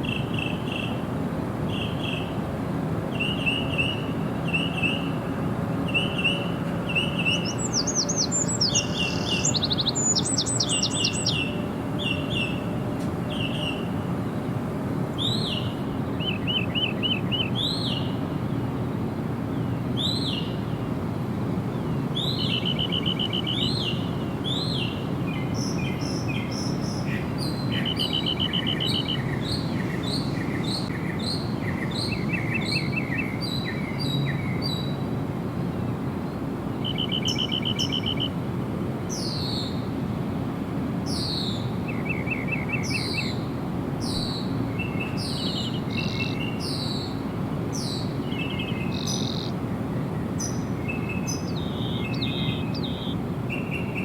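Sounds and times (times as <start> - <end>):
steady low background noise: 0.0 - 54.0
birds singing and calling: 3.1 - 14.0, 15.1 - 18.8, 19.5 - 20.9, 21.7 - 35.1, 35.7 - 38.3, 39.1 - 39.9, 41.1 - 54.0.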